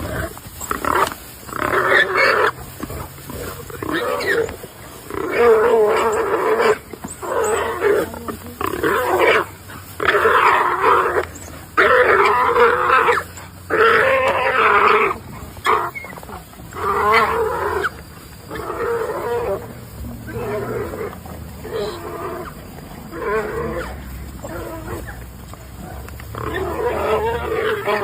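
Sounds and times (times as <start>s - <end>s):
pig squealing: 0.0s - 25.3s, 26.3s - 28.0s.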